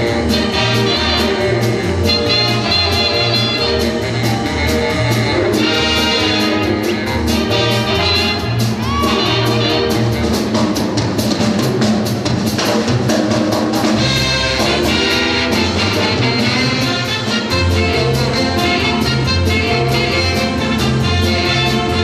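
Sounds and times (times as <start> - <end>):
upbeat brass band music: 0.0 - 22.0.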